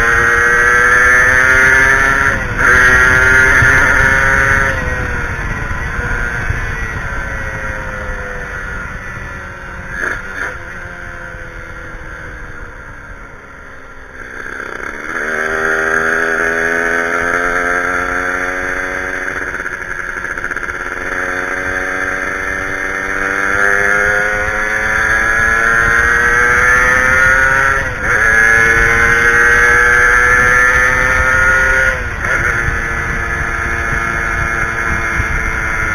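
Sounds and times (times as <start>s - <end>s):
two-stroke motorcycle engine: 0.0s - 35.9s.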